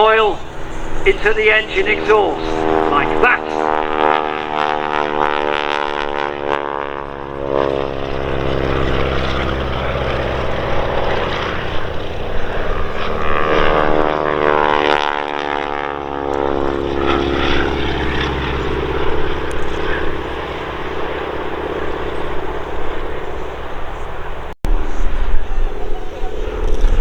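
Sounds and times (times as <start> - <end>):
biplane engine droning: 0.0 - 27.0.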